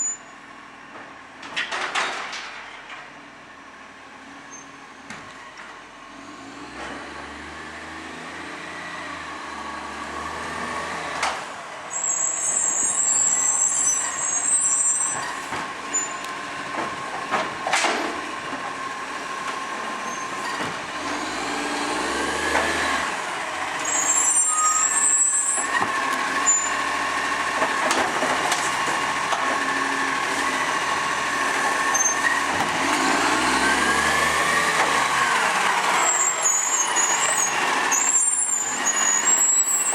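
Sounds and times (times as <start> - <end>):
garbage truck engine revving: 6.1 - 39.9.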